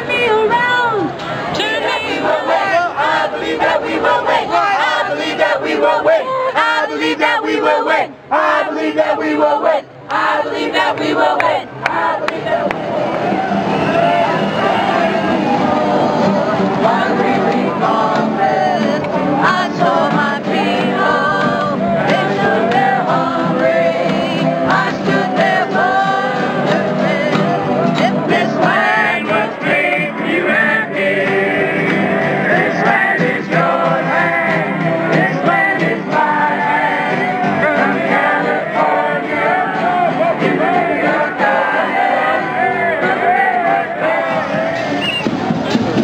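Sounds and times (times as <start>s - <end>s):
acoustic guitars: 0.0s - 46.0s
group of people singing: 0.6s - 45.3s.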